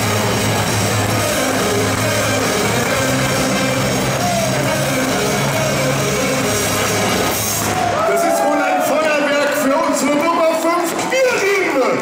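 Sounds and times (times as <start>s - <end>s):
crowd cheering: 0.0s - 12.0s
rock music over loudspeakers: 0.0s - 12.0s.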